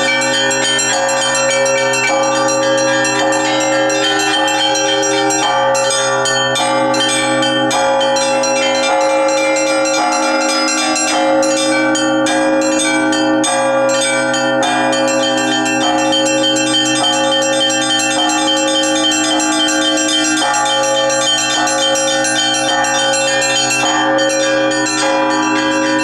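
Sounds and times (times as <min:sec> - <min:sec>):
large bells ringing: 0:00.0 - 0:26.0
small high bells struck rapidly: 0:00.0 - 0:26.0.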